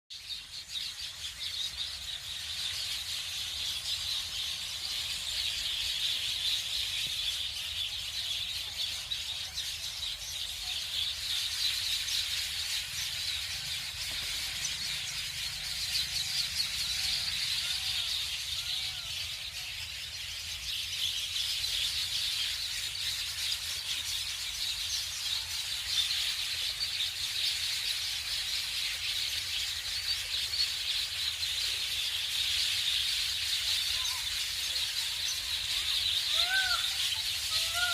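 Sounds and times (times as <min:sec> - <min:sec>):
lower repeated bird calls: 0:00.1 - 0:37.9
small birds chirping: 0:00.1 - 0:37.9.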